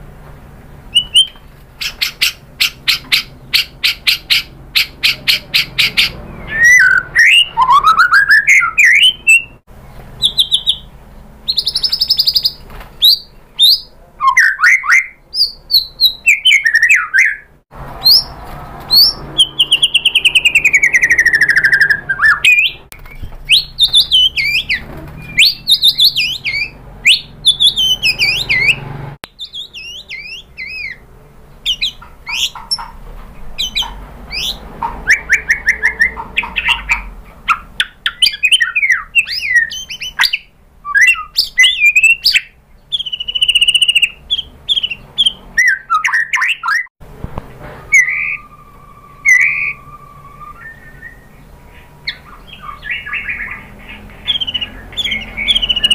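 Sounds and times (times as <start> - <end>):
bird singing whistled song: 0.9 - 9.6, 10.2 - 18.3, 18.9 - 31.0, 31.6 - 32.8, 33.6 - 46.9, 47.8 - 55.9.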